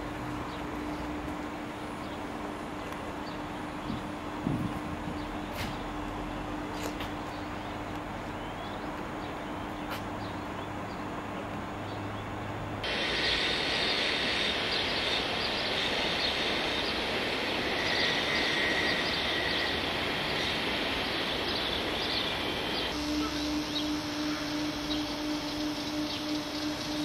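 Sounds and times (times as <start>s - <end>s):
outdoor background noise: 0.0s - 27.0s
steady low hum: 0.0s - 27.0s.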